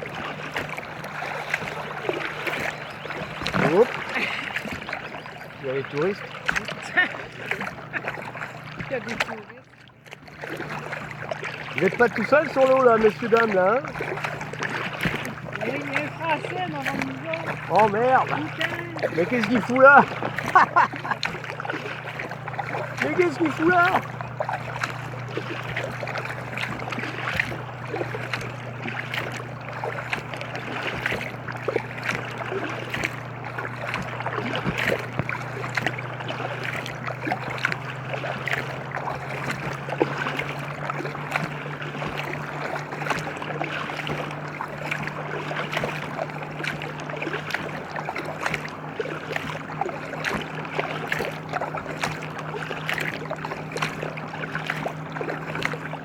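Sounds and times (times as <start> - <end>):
low motor hum: 0.0 - 56.0
water splashing around kayak: 0.0 - 56.0.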